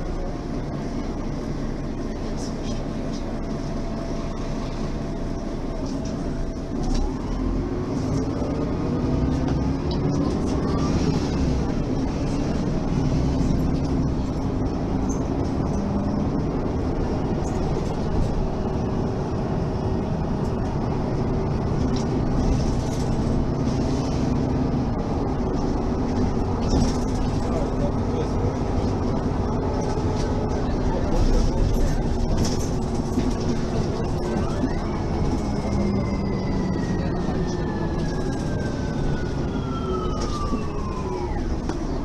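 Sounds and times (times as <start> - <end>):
bus diesel engine pulling away: 0.0 - 42.0.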